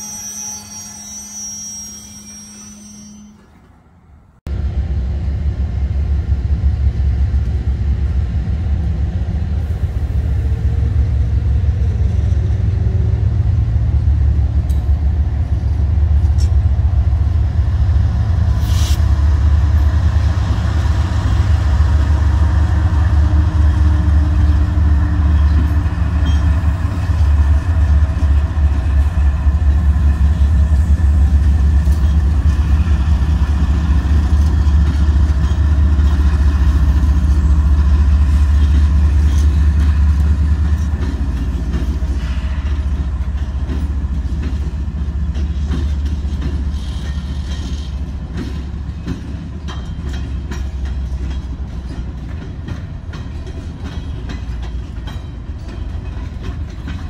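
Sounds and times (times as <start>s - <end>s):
diesel locomotives rumbling: 0.0s - 57.0s.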